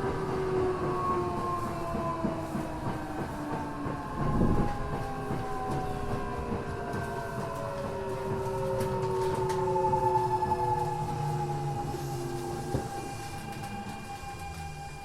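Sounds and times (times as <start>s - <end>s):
train clatter: 0.0s - 15.0s
wheels rumbling on rail: 0.0s - 15.0s.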